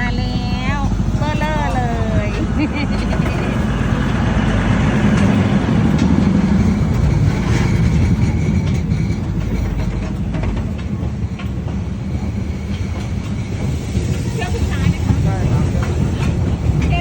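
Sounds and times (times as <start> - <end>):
rail clacks: 0.0 - 17.0
train wheels rumbling on rails: 0.0 - 17.0.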